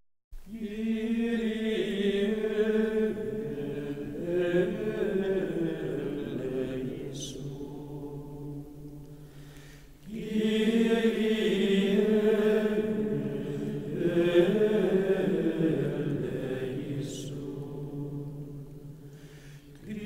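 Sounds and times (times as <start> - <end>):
chant-like choral music: 0.4 - 20.0.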